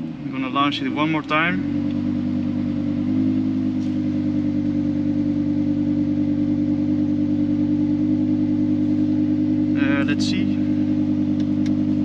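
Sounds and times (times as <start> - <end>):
sports car engine at steady revs: 0.0 - 12.0.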